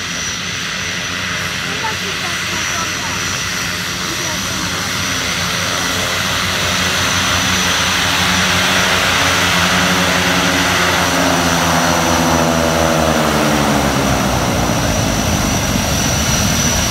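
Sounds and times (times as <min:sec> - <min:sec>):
propeller drone: 0:00.0 - 0:16.9
turbine whine: 0:00.0 - 0:16.9.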